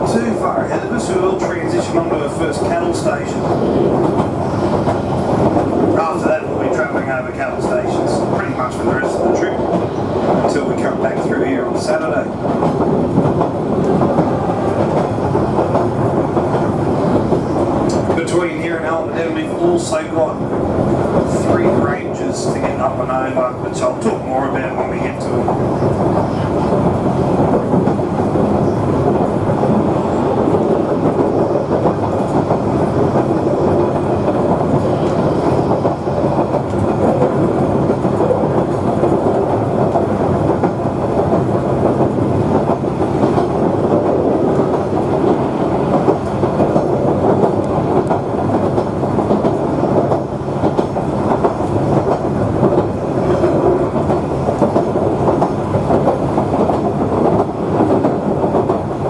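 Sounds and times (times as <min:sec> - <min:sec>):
train wheels and engine rumble: 0:00.0 - 0:59.0.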